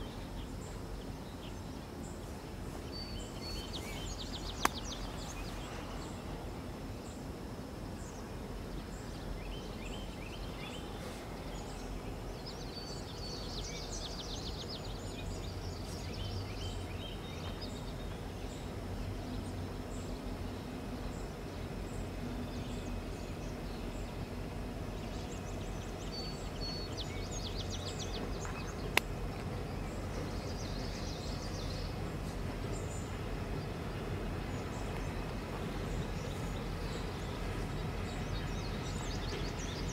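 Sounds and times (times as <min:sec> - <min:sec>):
birds chirping: 0:00.0 - 0:07.3, 0:08.0 - 0:39.9
distant diesel locomotive rumble: 0:00.0 - 0:39.9.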